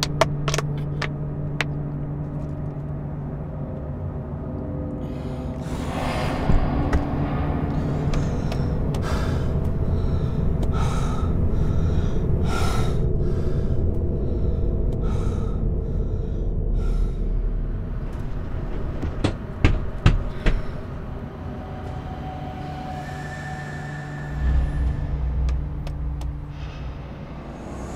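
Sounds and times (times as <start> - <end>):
steady low rumble: 0.0 - 27.9.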